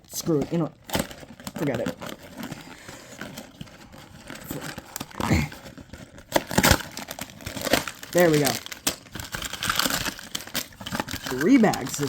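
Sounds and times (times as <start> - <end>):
cardboard packaging crinkling: 0.0 - 12.0
cardboard ripping: 0.3 - 12.0.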